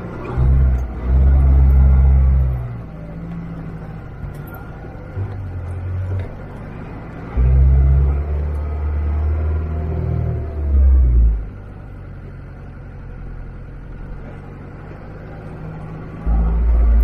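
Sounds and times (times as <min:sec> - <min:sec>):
off-road engine working in low gear: 0:00.0 - 0:17.0.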